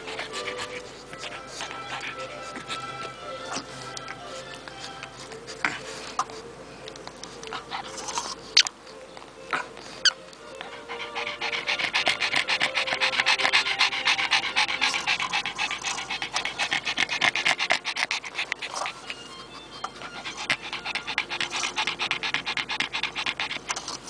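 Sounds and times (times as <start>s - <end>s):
dog panting: 0.0s - 8.8s, 9.5s - 24.0s.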